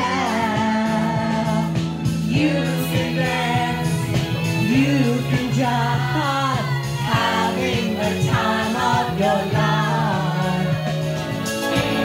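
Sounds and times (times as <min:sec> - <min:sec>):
recorded pop music: 0:00.0 - 0:12.0
women singing into microphone: 0:00.0 - 0:12.0.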